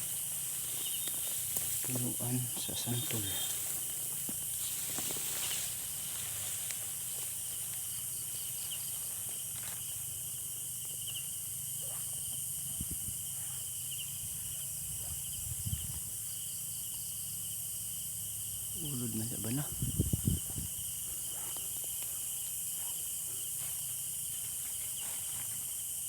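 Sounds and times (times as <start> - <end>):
night insects calling: 0.0 - 26.0.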